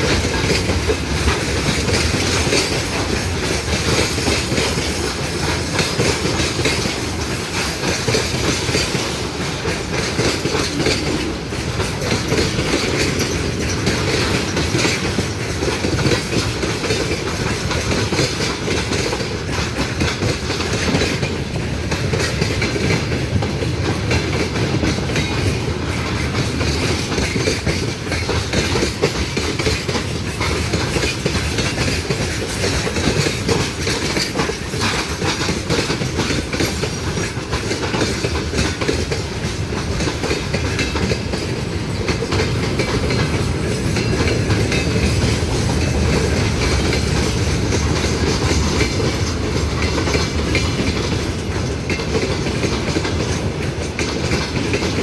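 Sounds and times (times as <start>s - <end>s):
train rumbling past: 0.0s - 55.0s
train wheels clattering on rails: 0.0s - 55.0s.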